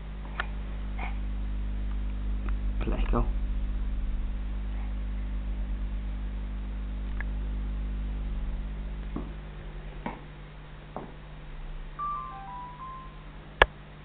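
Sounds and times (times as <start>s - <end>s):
aquarium equipment hum: 0.0s - 14.0s.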